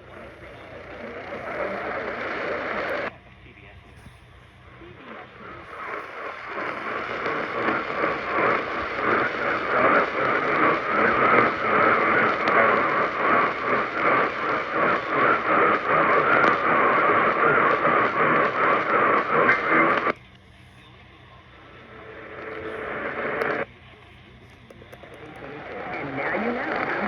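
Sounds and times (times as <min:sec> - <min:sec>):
crackling radio static: 0:00.0 - 0:27.0.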